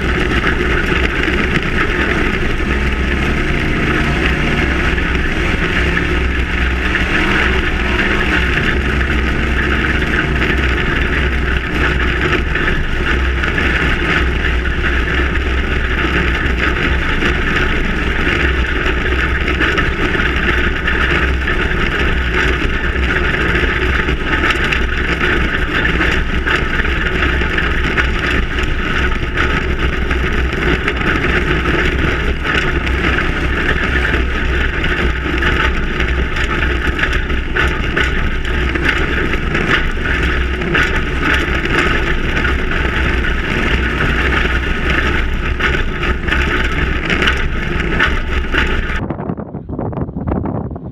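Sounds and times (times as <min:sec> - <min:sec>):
truck engine running: 0:00.0 - 0:49.1
tyre and road noise: 0:00.0 - 0:50.9
wind rushing over microphone: 0:00.0 - 0:50.9.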